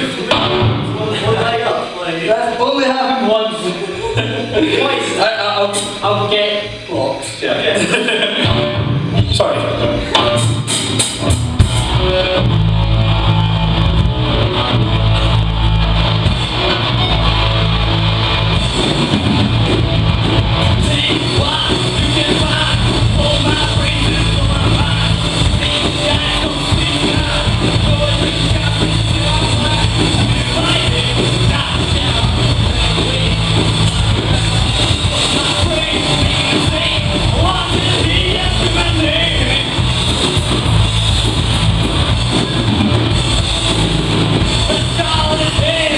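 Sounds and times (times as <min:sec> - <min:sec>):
live rock band: 0:00.0 - 0:07.0, 0:07.6 - 0:45.9
electric guitar: 0:00.0 - 0:45.9.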